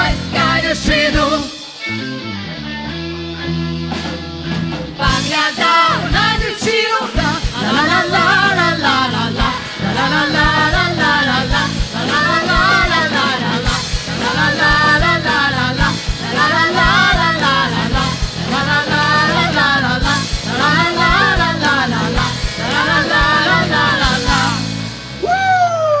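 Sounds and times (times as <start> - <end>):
band music with singing: 0.0 - 26.0.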